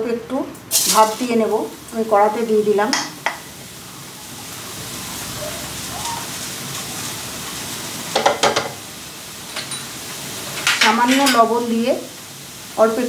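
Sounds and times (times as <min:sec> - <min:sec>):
vegetables sizzling in pan: 0:00.5 - 0:13.0.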